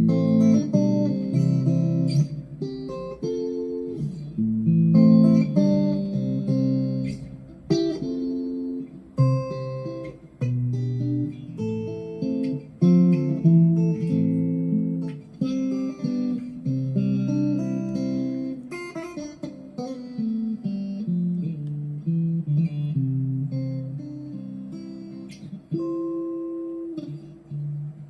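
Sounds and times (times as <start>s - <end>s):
electric guitar notes and chords: 0.0s - 28.0s.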